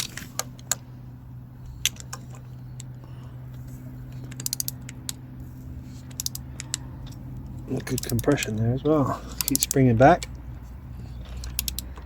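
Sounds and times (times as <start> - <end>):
engine crankshaft clicking: 0.0 - 1.0, 1.6 - 12.0
steady low hum: 0.0 - 12.0.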